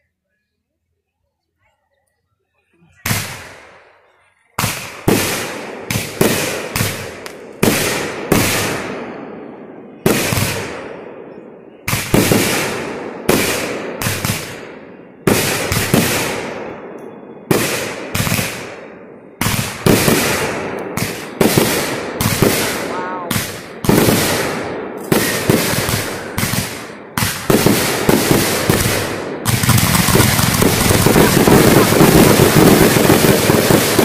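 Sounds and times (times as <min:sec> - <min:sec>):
fireworks booming with echo: 0:02.8 - 0:34.0.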